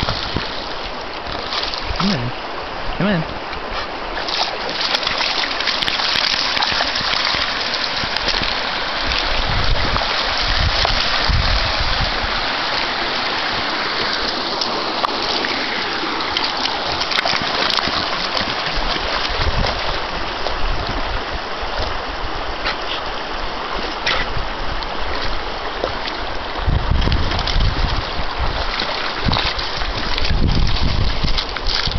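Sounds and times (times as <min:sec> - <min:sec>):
dog splashing through water: 0:00.0 - 0:02.0, 0:03.8 - 0:21.1, 0:23.7 - 0:31.9
rushing water: 0:00.0 - 0:31.9.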